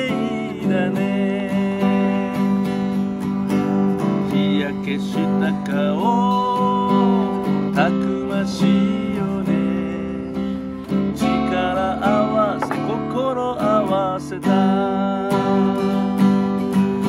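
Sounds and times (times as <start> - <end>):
man singing: 0.0 - 17.0
strummed acoustic guitar: 0.0 - 17.0.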